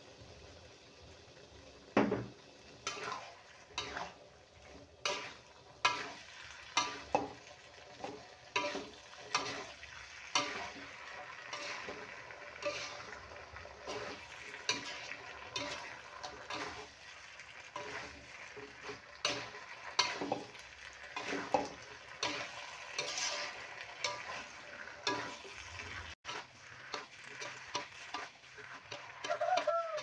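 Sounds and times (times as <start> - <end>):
food sizzling: 0.0 - 30.0
metal spatula scraping wok: 2.7 - 30.0.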